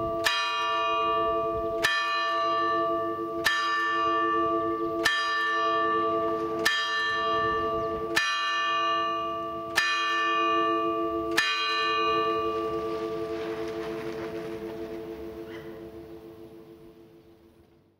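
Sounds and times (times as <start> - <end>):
bell tolling: 0.0 - 17.3.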